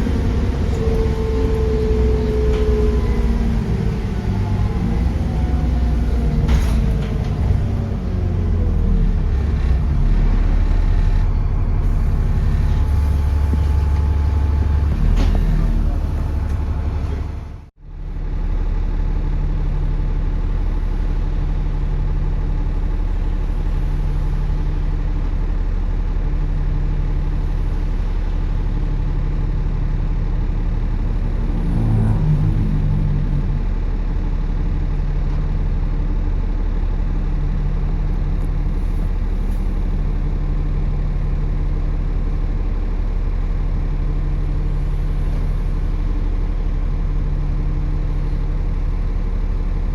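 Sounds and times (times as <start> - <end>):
bus engine running: 0.0 - 49.9.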